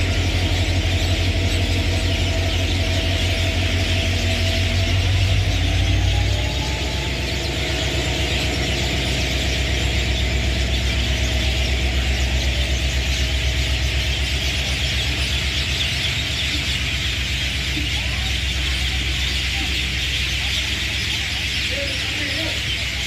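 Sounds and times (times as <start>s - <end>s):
high-pitched squeal: 0.0s - 23.0s
train wheels rumbling on rails: 0.0s - 23.0s.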